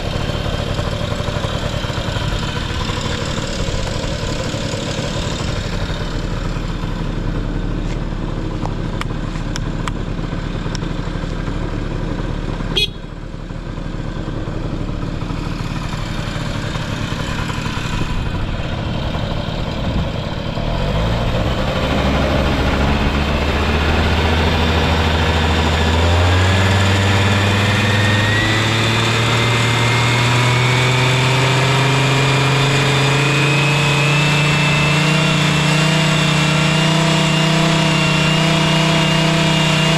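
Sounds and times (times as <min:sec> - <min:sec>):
scooter engine idling: 0:00.0 - 0:34.9.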